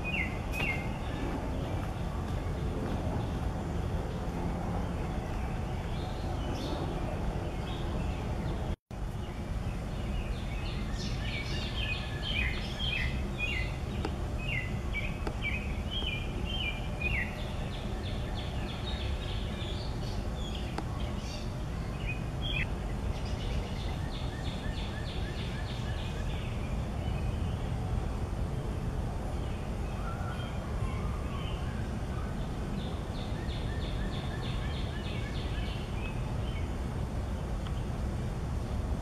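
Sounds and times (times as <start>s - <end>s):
small birds chirping: 0.0s - 28.7s, 29.3s - 38.1s.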